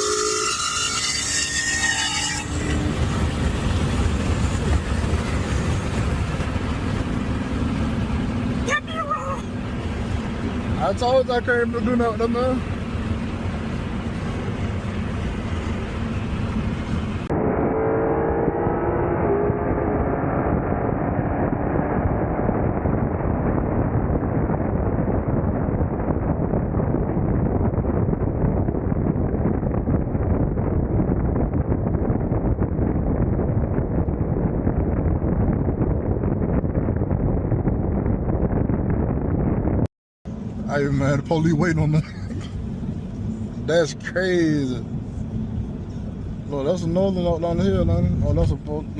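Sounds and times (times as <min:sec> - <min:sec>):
car engine rumbling: 0:00.0 - 0:48.9
road noise: 0:00.0 - 0:48.9
rushing wind: 0:00.0 - 0:48.9.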